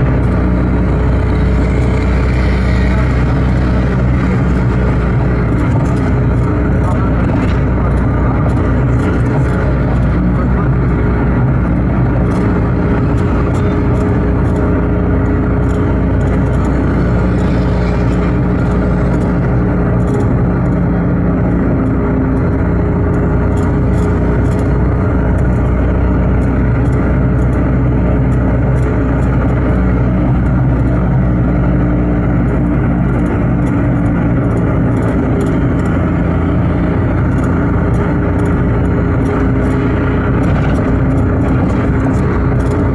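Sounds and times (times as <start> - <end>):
car engine: 0.0 - 42.9
road noise: 0.0 - 42.9.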